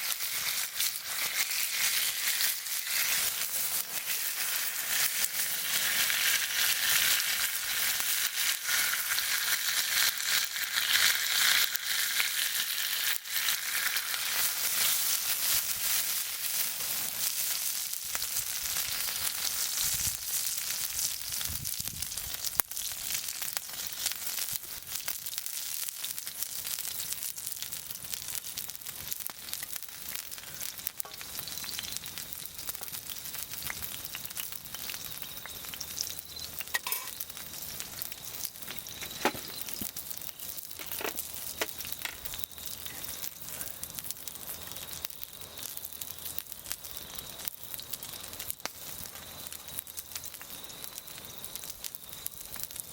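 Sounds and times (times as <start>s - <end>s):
meat sizzling in a pan: 0.0s - 52.9s.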